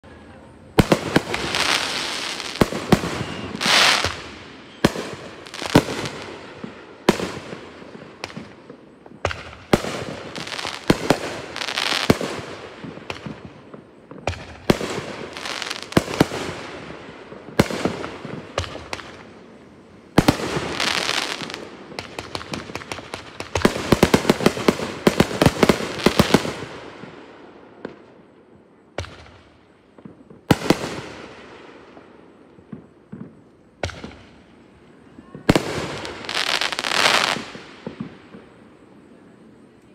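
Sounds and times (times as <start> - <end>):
firework crackling: 0.0 - 38.8.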